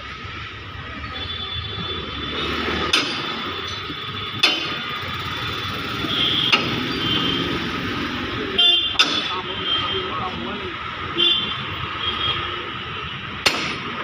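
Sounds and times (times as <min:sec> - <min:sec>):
workshop background noise: 0:00.0 - 0:14.0.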